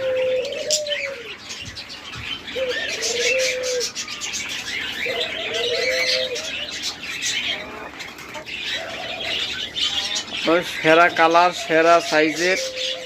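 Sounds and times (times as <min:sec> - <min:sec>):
dove cooing: 0:00.0 - 0:13.0
small cage birds chirping: 0:00.0 - 0:13.0.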